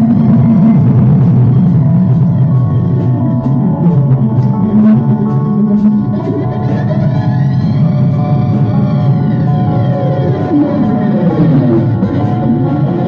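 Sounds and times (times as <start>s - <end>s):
cymbal striking: 0.0s - 13.0s
rock band playing: 0.0s - 13.0s.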